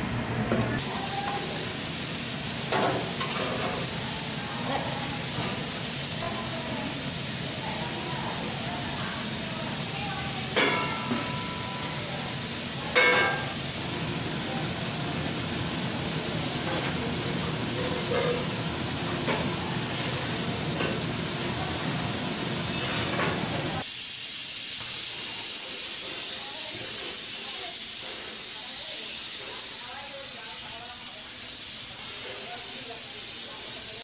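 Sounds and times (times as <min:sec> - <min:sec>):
kitchen hiss: 0:00.8 - 0:34.0.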